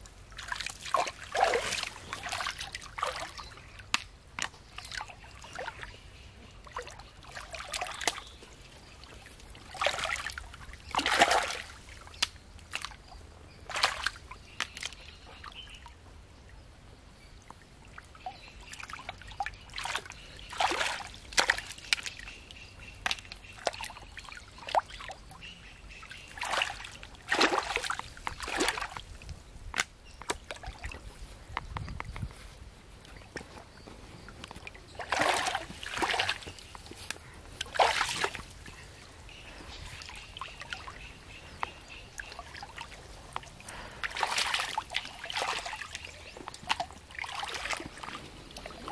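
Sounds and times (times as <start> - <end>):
water sloshing and splashing: 0.0 - 16.0, 17.4 - 31.2, 33.1 - 48.9.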